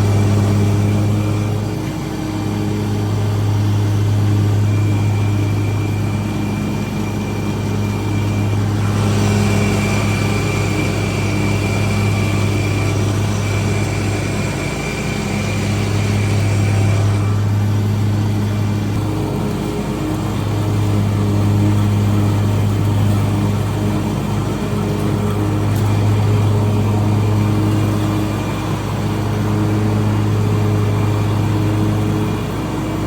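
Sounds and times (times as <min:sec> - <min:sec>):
lawn mower engine droning: 0:00.0 - 0:33.0
mower cutting grass hiss: 0:00.0 - 0:33.0.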